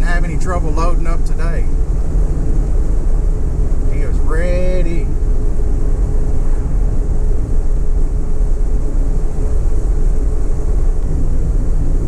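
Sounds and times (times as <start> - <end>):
car cabin road and engine rumble: 0.0 - 12.0
faint steady hum: 0.0 - 12.0.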